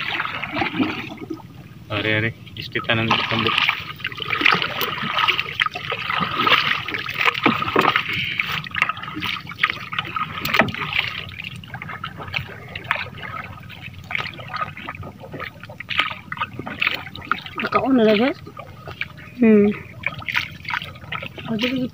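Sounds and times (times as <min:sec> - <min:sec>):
water splashing around boat: 0:00.0 - 0:21.9.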